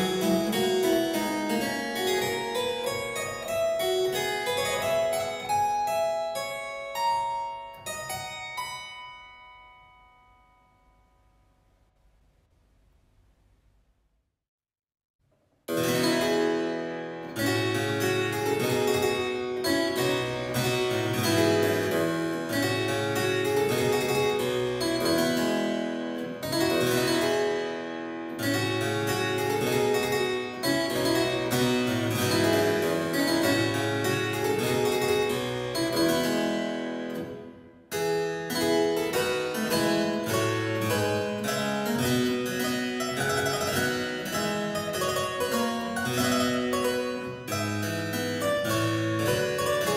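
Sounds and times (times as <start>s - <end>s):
solo harpsichord playing: 0.0s - 10.9s, 15.7s - 49.9s.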